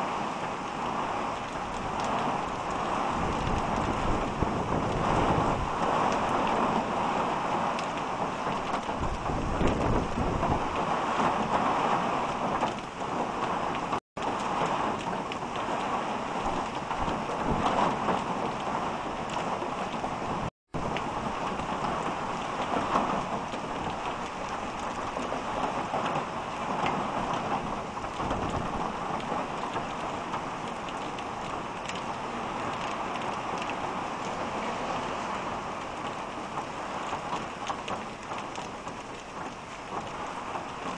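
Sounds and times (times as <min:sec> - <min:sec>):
heavy rain on wet street: 0:00.0 - 0:40.9
wind rumbling on microphone: 0:00.0 - 0:40.9.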